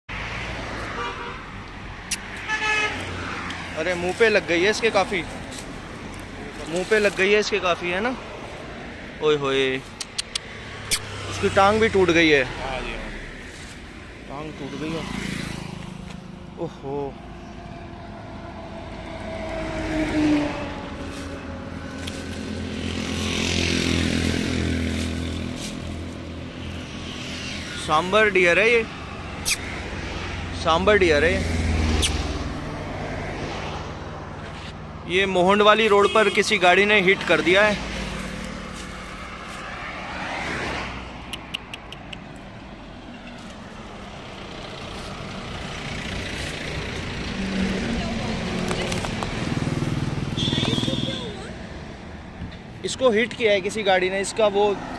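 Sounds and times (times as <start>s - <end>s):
road noise of passing vehicle: 0.0s - 54.9s
vehicle engine humming: 0.0s - 54.9s.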